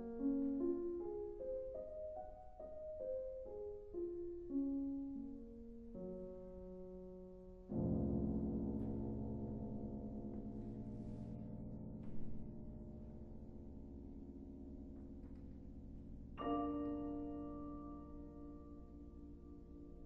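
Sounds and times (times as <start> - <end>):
deep soft piano bass chord: 0.0 - 20.0.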